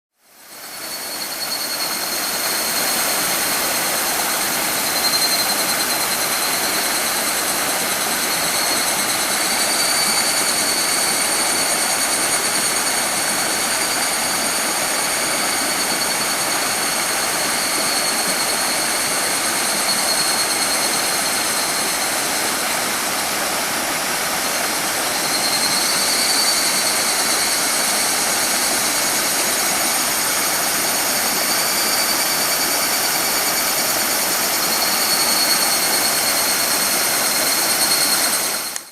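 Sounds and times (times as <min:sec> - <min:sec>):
evening cicadas calling: 0:00.2 - 0:38.9.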